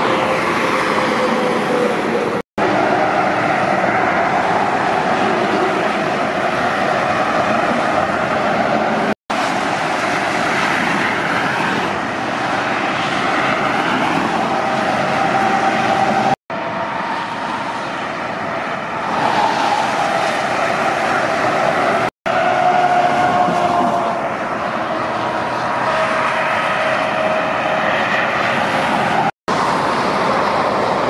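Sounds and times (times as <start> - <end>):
motorway traffic passing: 0.0 - 31.0.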